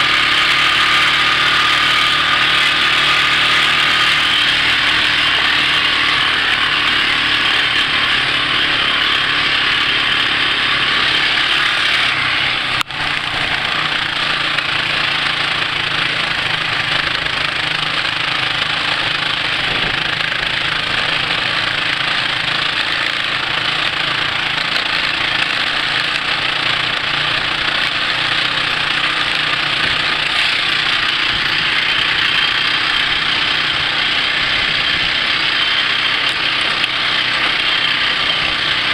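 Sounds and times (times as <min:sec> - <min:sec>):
quad bike engines running: 0:00.0 - 0:38.9.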